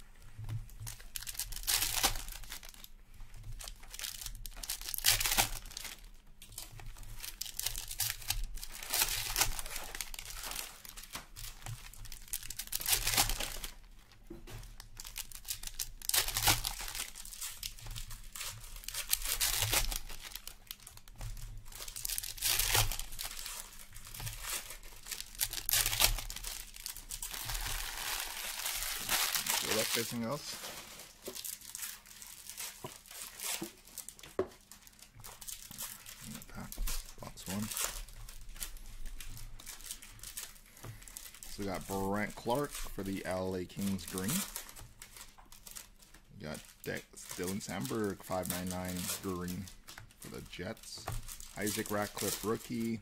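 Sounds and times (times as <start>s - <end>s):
foil wrappers crinkling: 0.2s - 53.0s
foil wrappers tearing: 0.8s - 13.8s, 14.6s - 53.0s.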